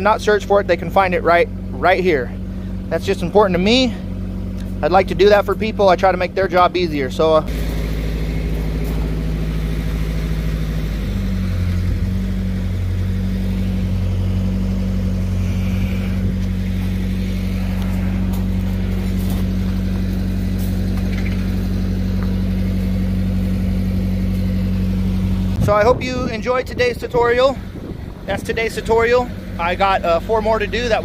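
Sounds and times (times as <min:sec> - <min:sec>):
diesel welding machine humming: 0:00.0 - 0:31.0.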